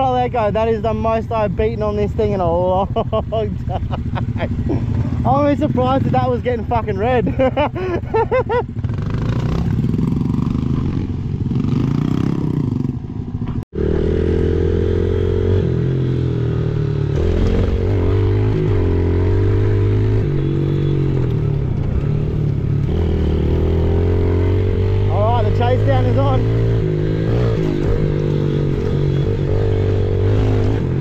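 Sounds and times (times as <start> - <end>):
motorcycle engine revving: 3.5 - 31.0.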